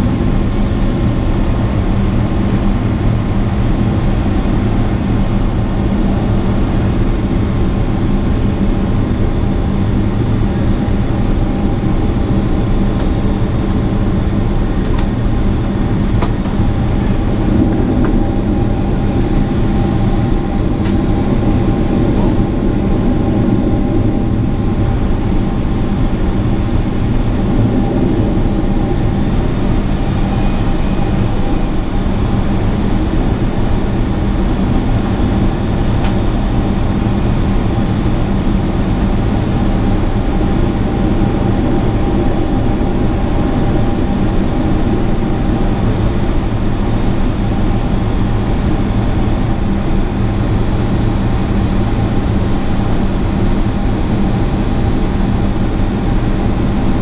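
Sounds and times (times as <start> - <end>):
jet engine and airflow drone: 0.0 - 57.0
steady hum tones: 0.0 - 57.0.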